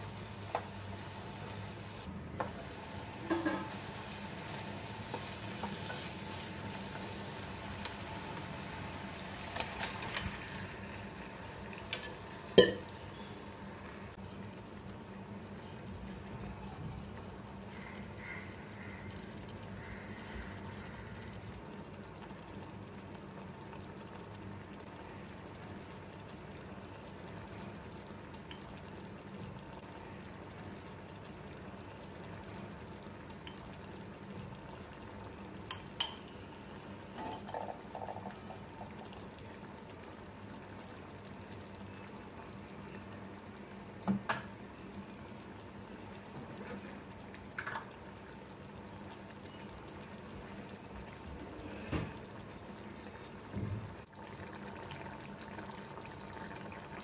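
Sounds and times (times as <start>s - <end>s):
chicken sizzling in a pan: 0.0s - 15.3s, 16.3s - 57.0s.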